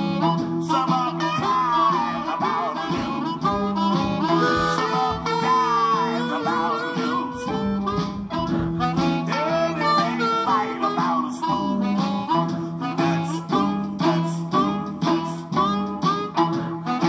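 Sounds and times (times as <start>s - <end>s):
amplified blues harmonica: 0.0s - 17.0s
backing music with low notes: 0.0s - 17.0s.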